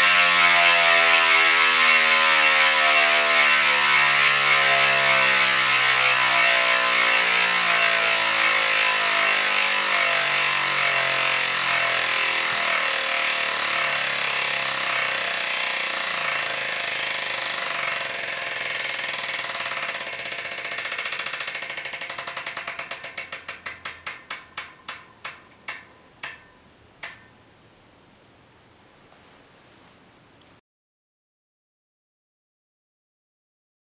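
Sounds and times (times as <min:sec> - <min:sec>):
bicycle freehub buzzing: 0:00.0 - 0:27.4.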